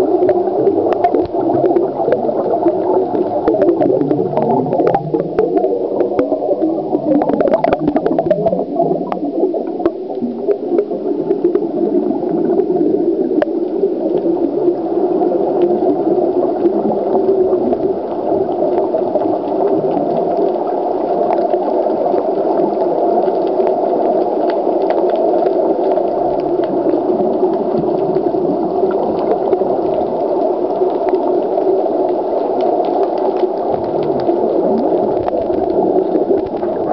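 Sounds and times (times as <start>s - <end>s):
muffled underwater water rush: 0.0s - 36.9s
faint clicks: 0.2s - 11.6s, 17.6s - 36.9s.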